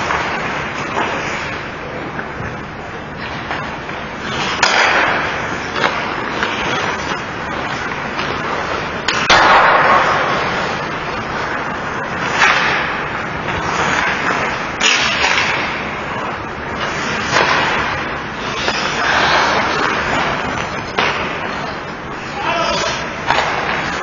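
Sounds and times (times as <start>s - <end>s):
hockey stick and puck cracks: 0.0s - 2.3s, 3.2s - 15.9s, 16.7s - 21.5s, 22.8s - 24.0s
skates scraping ice: 0.0s - 24.0s.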